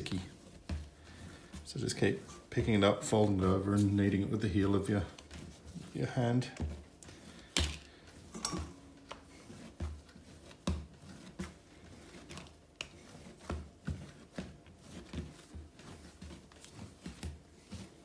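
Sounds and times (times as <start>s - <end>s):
dough thumping and slapping: 0.0s - 18.0s.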